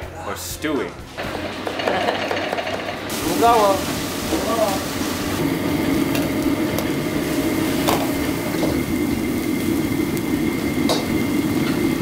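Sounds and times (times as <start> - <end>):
kitchen equipment roar: 1.1 - 12.0.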